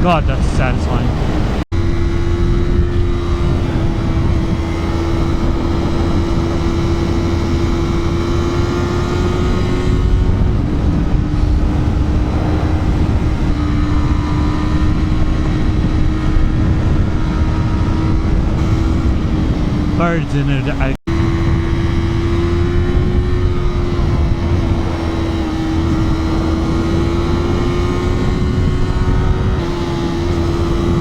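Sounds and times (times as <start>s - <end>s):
heavy wind rush: 0.0s - 29.7s
motorcycle engine accelerating: 1.0s - 31.0s.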